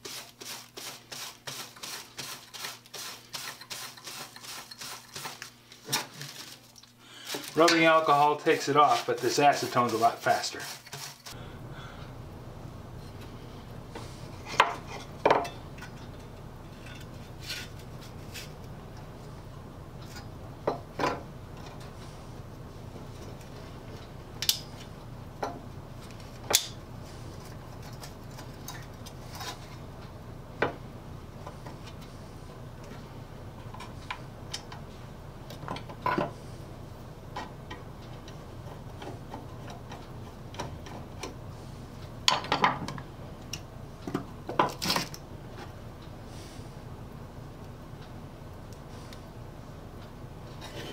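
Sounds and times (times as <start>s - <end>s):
steady low hum: 1.3s - 50.9s.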